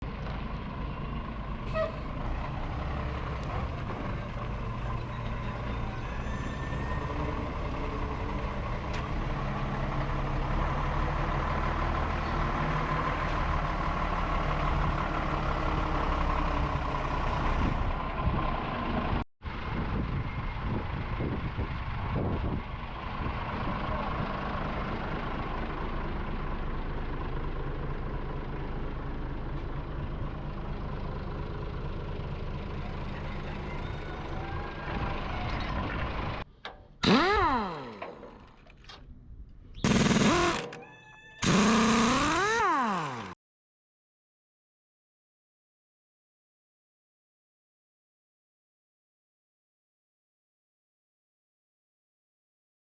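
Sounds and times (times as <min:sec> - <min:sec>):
heavy truck engine running: 0:00.0 - 0:40.8, 0:41.4 - 0:43.4.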